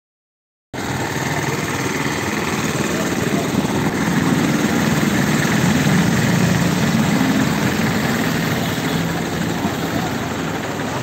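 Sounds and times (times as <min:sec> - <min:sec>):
vehicle engine running: 0:00.8 - 0:11.0.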